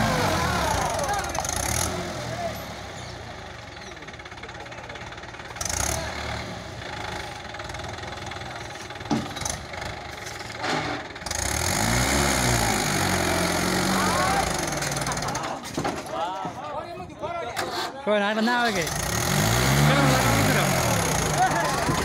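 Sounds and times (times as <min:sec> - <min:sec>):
tractor diesel engine revving: 0:00.0 - 0:16.2, 0:18.4 - 0:22.0.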